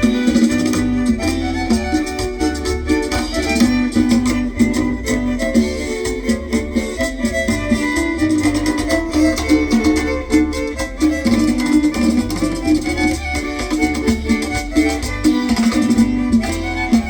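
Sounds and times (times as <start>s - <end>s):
steady bass pulse: 0.0s - 15.2s
strummed guitar: 0.0s - 17.0s
violins playing melody: 0.0s - 17.0s.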